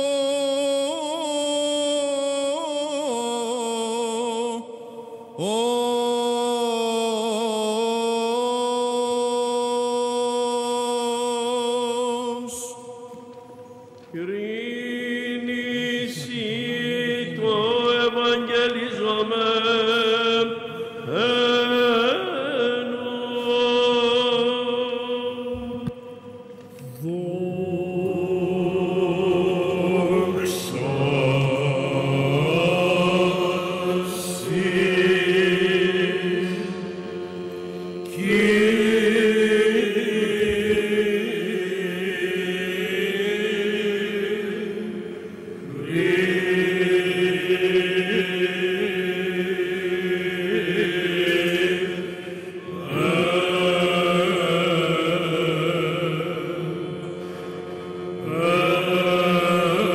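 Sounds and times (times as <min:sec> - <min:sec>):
male choir chanting: 0:00.0 - 0:13.2, 0:14.1 - 0:59.9.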